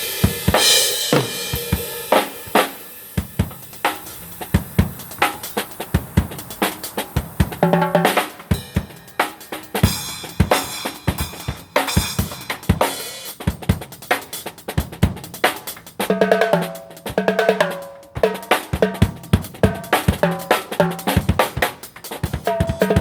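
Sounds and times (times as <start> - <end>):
drum kit groove: 0.0 - 23.0.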